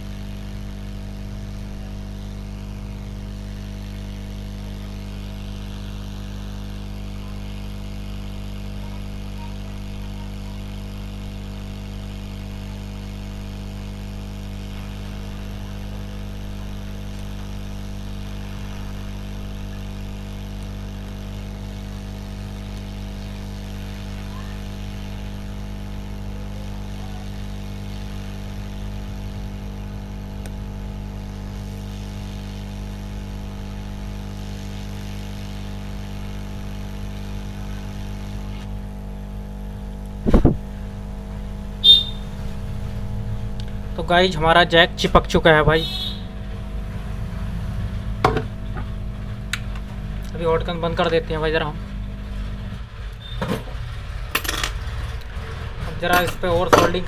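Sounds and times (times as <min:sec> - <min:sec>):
hot air gun hum and hiss: 0:00.0 - 0:46.4.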